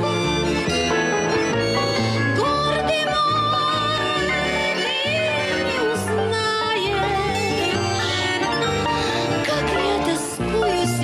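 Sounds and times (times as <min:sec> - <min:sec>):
acoustic guitars and accordion playing: 0:00.0 - 0:11.0.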